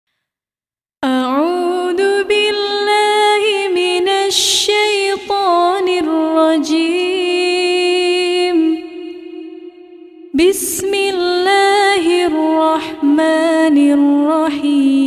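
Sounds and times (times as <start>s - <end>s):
person chanting recitation: 1.1s - 15.0s.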